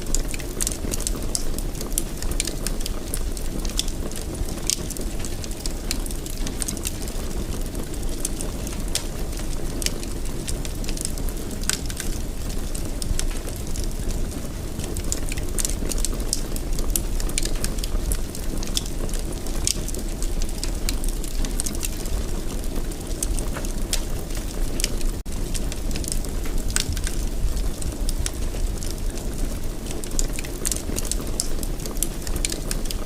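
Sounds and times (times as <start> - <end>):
low rumble of flames: 0.0 - 33.0
wood fire crackling: 0.0 - 33.0.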